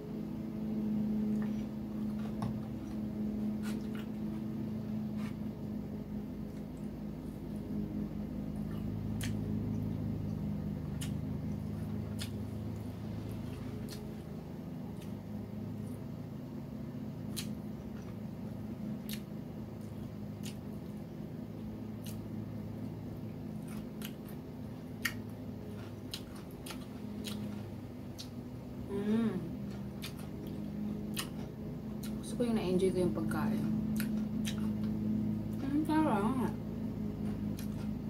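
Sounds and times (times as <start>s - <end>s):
steady low hum: 0.0s - 38.0s
chewing crisp food: 1.2s - 7.8s, 8.4s - 16.0s, 17.2s - 21.0s, 21.6s - 28.8s, 29.5s - 32.2s, 33.6s - 35.6s, 37.0s - 38.0s.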